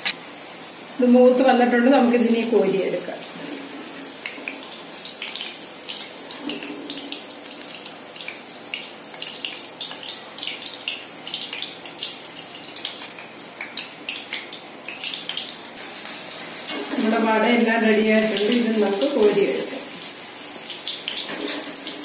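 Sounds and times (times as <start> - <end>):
hot oil sizzling and crackling: 0.0 - 22.0.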